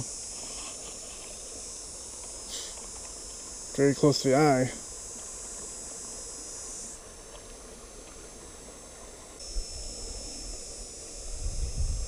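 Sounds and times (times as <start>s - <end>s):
high-pitched insect buzzing: 0.0s - 12.0s.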